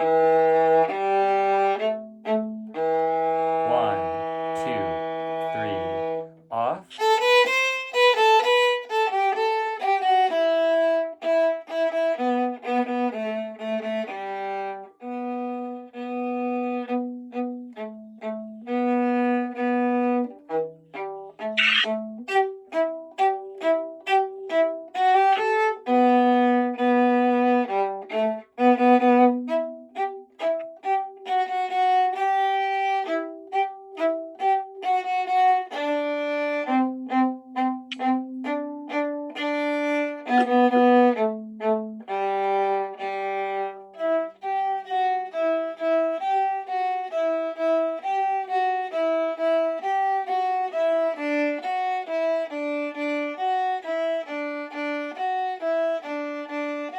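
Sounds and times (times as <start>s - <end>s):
violin melody: 0.0s - 56.9s.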